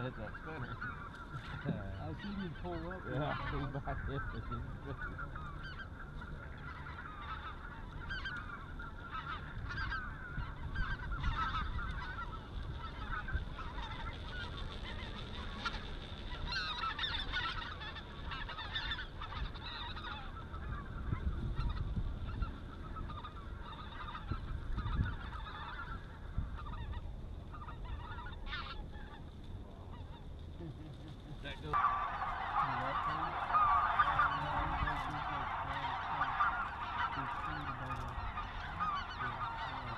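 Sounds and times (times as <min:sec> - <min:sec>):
geese honking: 0:00.0 - 0:39.9.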